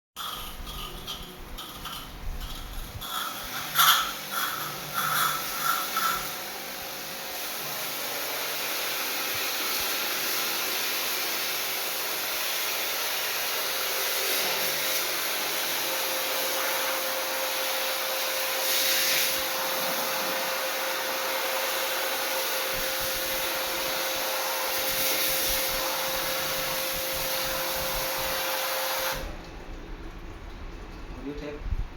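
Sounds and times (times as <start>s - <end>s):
air conditioner blowing air: 0.2s - 31.9s.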